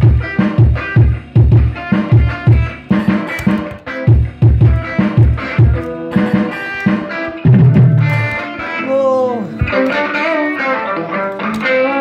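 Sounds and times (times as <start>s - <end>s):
drum kit: 0.0s - 8.9s, 9.6s - 10.4s
electric guitar: 0.0s - 12.0s.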